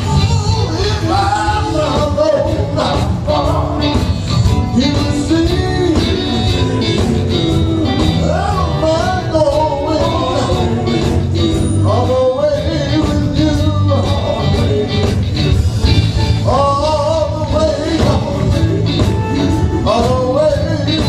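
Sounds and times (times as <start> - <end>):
person singing: 0.0 - 15.4, 16.2 - 21.0
gospel band with bass: 0.0 - 21.0
steady drum beat: 0.0 - 21.0.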